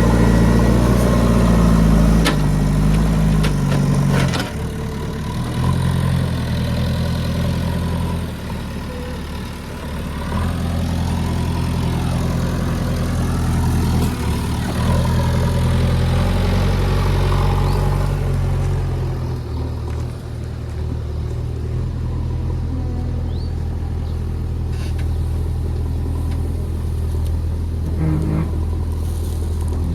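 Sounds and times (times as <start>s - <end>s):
diesel engine revving: 0.0s - 29.9s.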